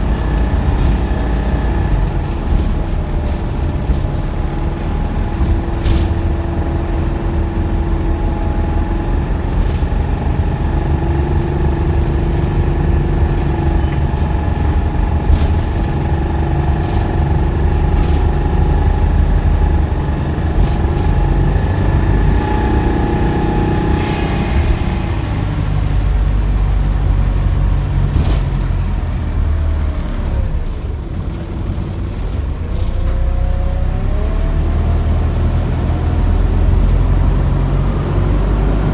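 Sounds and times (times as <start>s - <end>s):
bus engine rumbling: 0.0s - 38.9s
drivetrain whine: 0.0s - 38.9s.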